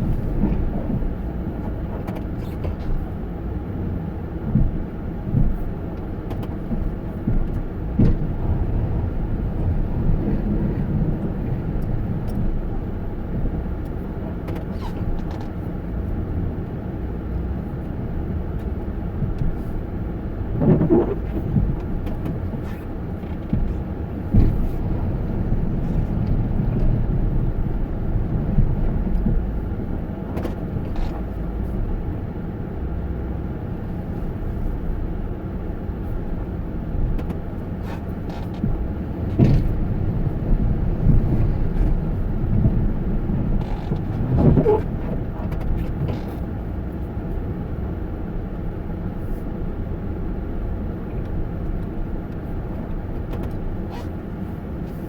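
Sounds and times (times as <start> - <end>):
motor vehicle rumble: 0.0 - 55.0.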